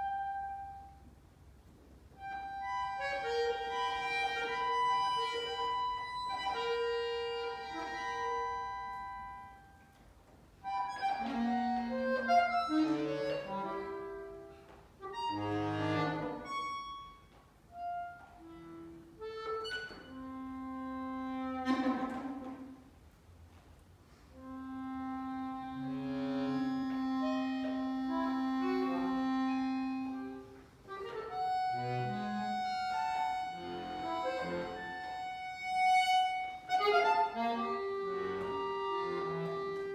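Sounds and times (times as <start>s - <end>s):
solo accordion playing: 0.0s - 1.3s, 2.0s - 23.0s, 24.3s - 39.9s.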